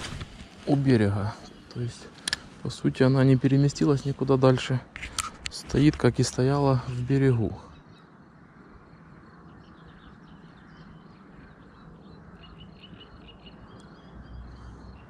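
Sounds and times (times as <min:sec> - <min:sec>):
low background noise: 0:00.0 - 0:15.0
small birds chirping: 0:00.0 - 0:15.0.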